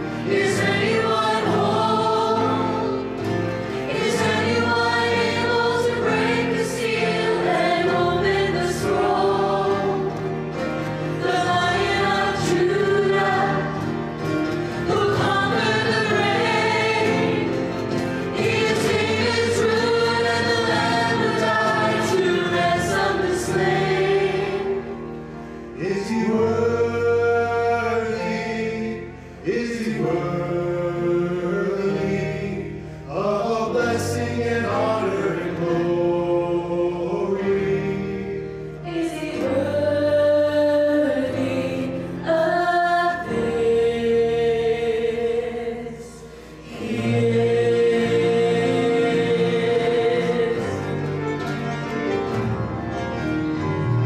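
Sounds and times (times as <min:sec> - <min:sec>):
choir singing a hymn: 0:00.0 - 0:54.0
piano: 0:00.0 - 0:54.0.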